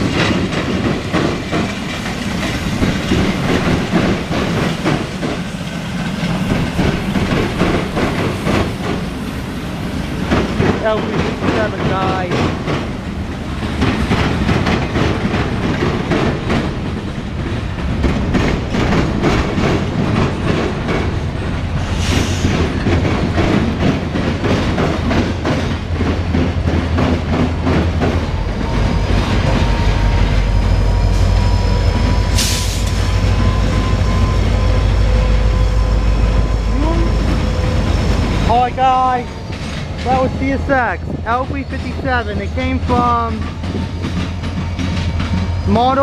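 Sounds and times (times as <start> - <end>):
diesel locomotive rumble: 0.0 - 46.0
train wheels clicking over rail joints: 0.0 - 46.0.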